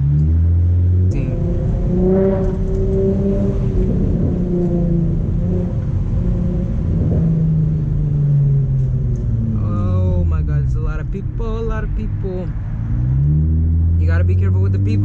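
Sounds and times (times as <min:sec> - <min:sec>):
car exhaust popping and crackling: 0:00.0 - 0:15.0.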